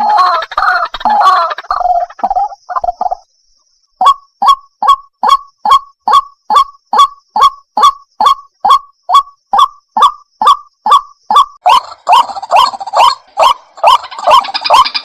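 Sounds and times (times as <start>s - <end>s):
waterhen hoarse calls: 0.0s - 3.2s, 4.0s - 15.0s.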